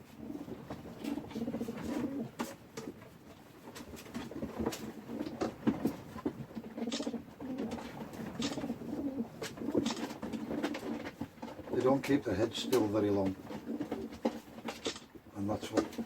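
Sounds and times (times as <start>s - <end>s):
pigeons cooing: 0.0s - 3.0s, 4.3s - 14.7s.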